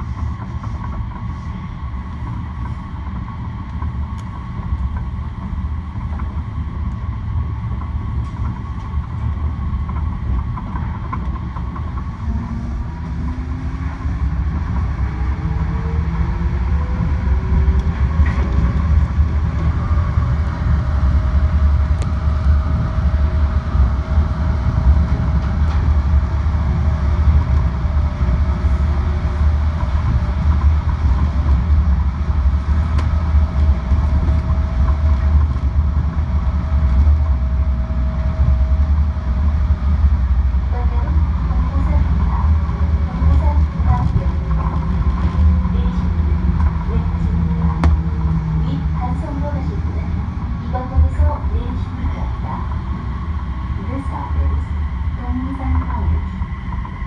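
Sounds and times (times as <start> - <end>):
low rumble of train tyres: 0.0 - 57.0.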